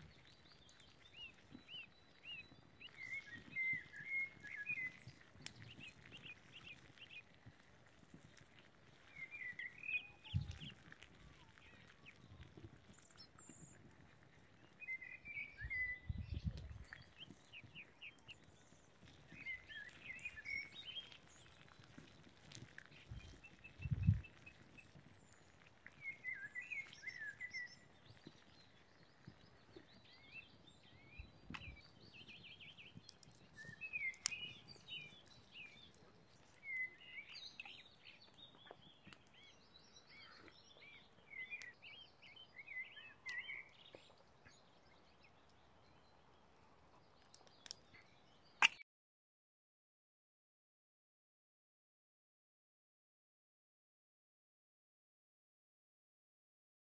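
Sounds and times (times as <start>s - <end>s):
small songbirds chirping: 0.0s - 48.8s.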